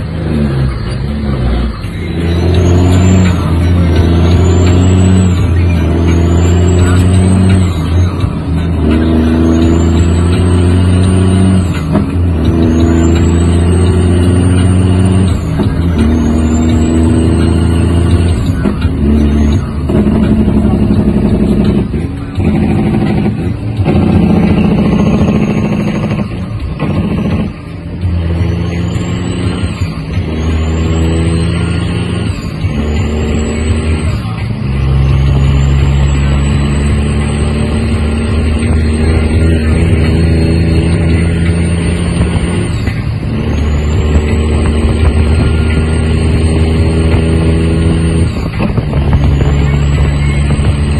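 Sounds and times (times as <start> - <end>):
truck diesel engine shifting gears: 0.0 - 50.9.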